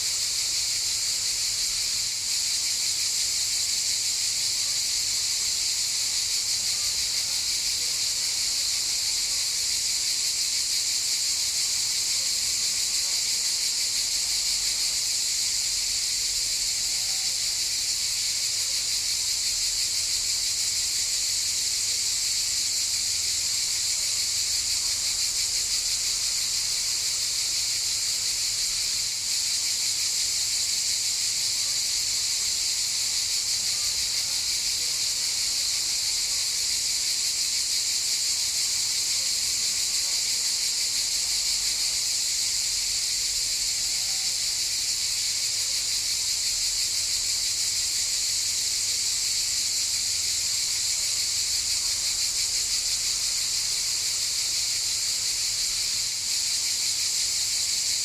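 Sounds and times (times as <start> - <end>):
cicadas buzzing in chorus: 0.0 - 58.0.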